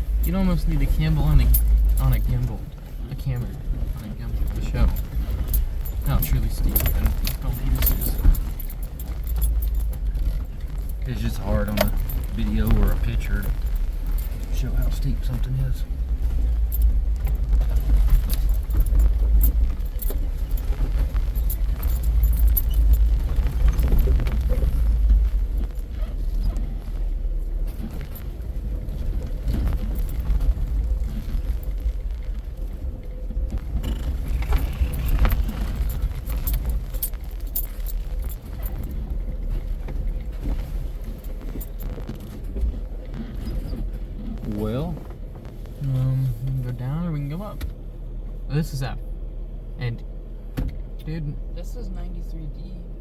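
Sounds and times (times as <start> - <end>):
engine and drivetrain rumble: 0.0 - 53.0
clinking and rattling: 0.1 - 32.8, 33.5 - 44.8.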